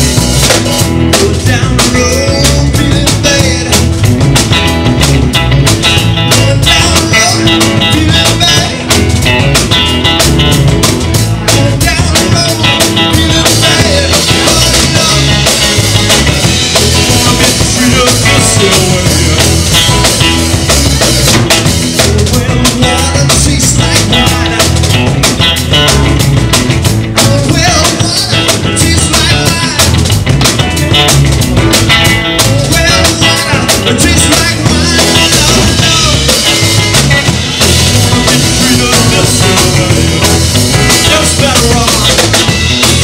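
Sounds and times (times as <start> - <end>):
rock music with drums: 0.0 - 43.0.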